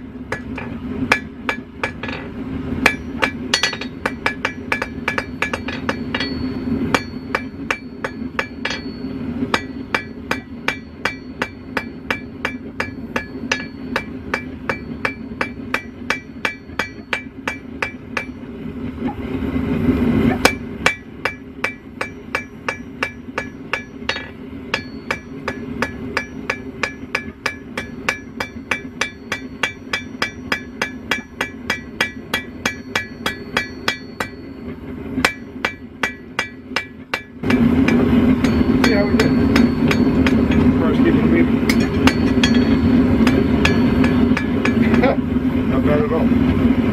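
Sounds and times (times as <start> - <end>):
hammer striking steel on anvil: 0.0 - 18.5, 20.3 - 45.2
gas forge roaring: 0.0 - 46.9.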